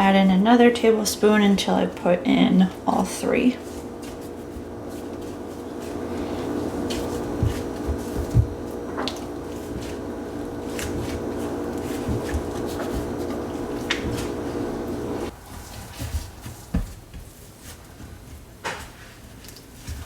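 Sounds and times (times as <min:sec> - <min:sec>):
steady hum: 0:00.0 - 0:17.6
dough knocking and squishing: 0:03.6 - 0:20.0.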